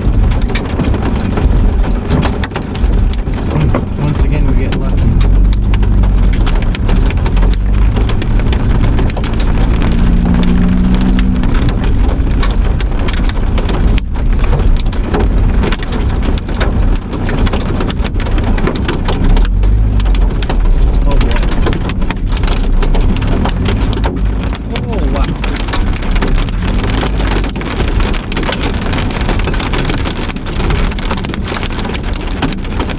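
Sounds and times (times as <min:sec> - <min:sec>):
heavy rain pelting down: 0:00.0 - 0:32.9.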